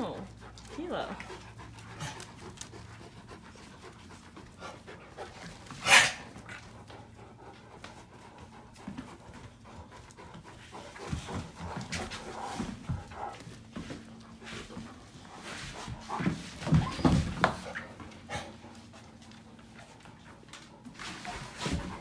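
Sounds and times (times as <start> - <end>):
dogs panting: 0.0 - 22.0.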